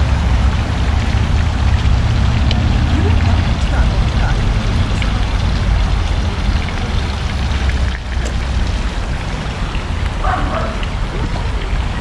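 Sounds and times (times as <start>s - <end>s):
water running in a stream: 0.0s - 12.0s.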